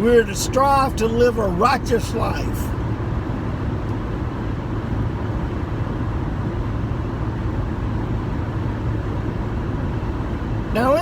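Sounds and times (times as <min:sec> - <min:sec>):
constant low hum: 0:00.0 - 0:11.0
vehicle rumbling in motion: 0:00.0 - 0:11.0.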